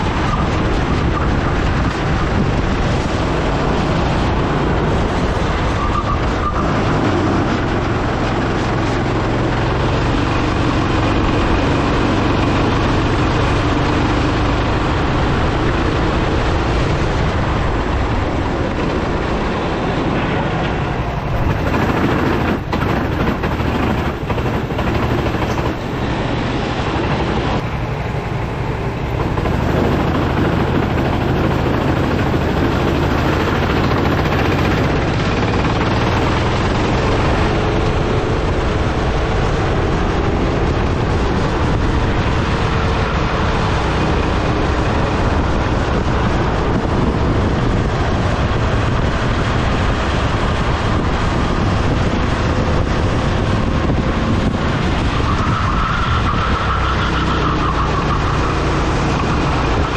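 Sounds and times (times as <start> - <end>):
kart engine racing: 0.0 - 59.9
road and air noise: 0.0 - 59.9.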